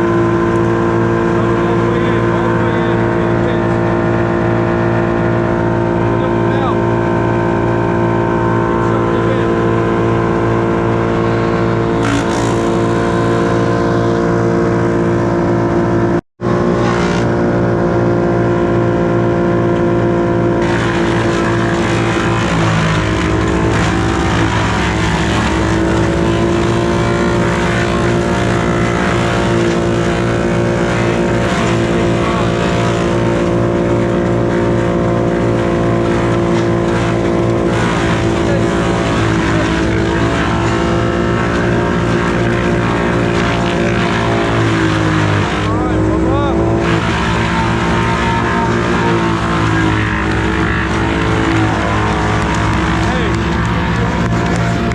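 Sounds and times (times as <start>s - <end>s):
engine running at high speed: 0.0s - 54.9s.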